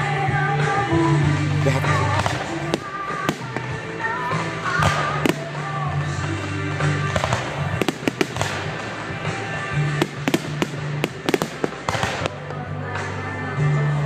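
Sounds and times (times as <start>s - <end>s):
fireworks bangs and crackles: 1.3s - 13.1s.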